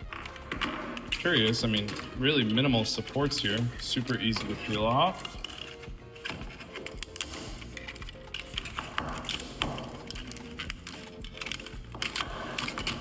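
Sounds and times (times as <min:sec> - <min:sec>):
background music: 0:00.0 - 0:13.0
plastic cracking and clicking: 0:00.0 - 0:13.0.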